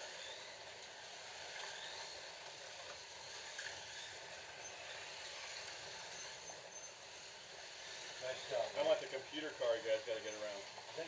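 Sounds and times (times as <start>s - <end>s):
slot cars whirring on track: 0.0s - 11.0s.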